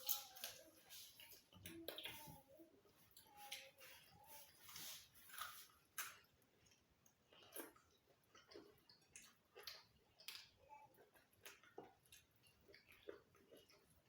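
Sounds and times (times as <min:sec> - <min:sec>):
people chewing and lip-smacking: 0:00.0 - 0:14.0.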